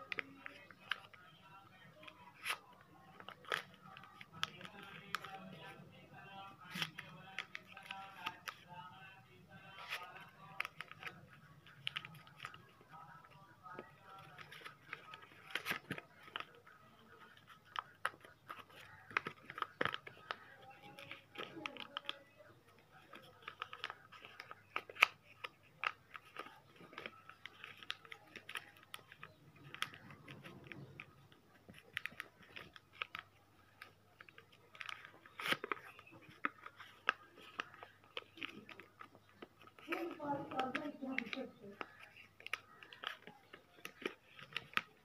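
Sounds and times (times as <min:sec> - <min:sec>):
paper crinkling as it is folded: 0:00.0 - 0:45.0.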